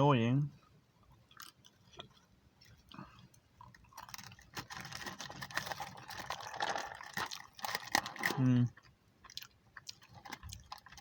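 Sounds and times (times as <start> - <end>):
person eating: 1.0 - 11.0.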